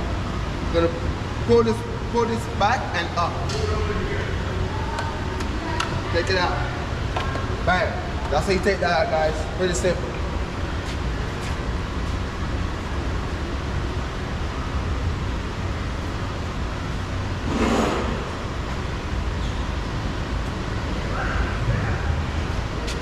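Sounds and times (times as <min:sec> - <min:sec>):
background traffic rumble: 0:00.0 - 0:23.0.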